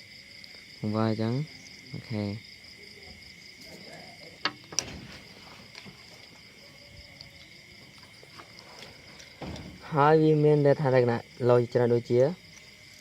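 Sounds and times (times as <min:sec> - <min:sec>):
high-pitched insect trilling: 0:00.0 - 0:13.0.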